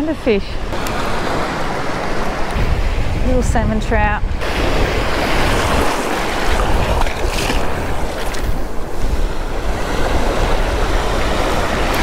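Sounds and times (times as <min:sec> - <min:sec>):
small waves washing on beach: 0:00.0 - 0:12.0
wind buffeting microphone: 0:00.0 - 0:12.0.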